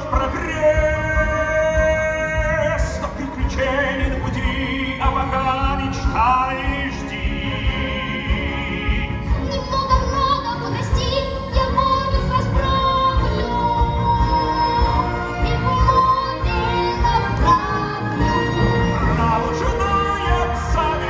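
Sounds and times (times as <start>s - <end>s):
orchestral backing: 0.0s - 21.0s.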